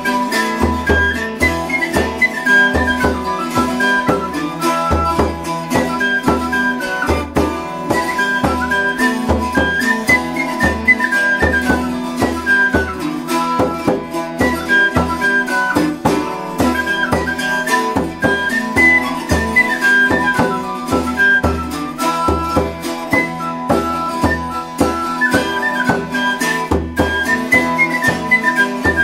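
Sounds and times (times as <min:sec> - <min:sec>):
instrumental folk music: 0:00.0 - 0:29.0.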